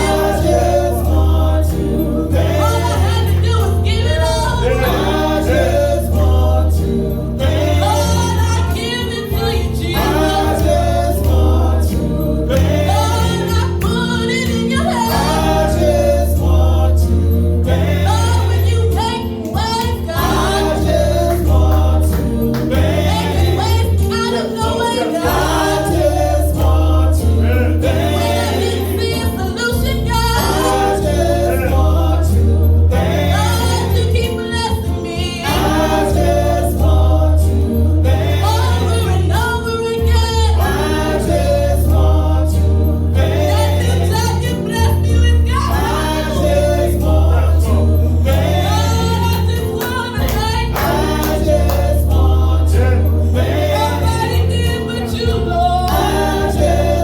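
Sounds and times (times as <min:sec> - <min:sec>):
strong bass accompaniment: 0:00.0 - 0:14.3, 0:20.1 - 0:24.1, 0:25.2 - 0:34.3, 0:35.4 - 0:57.0
group gospel singing: 0:00.0 - 0:57.0.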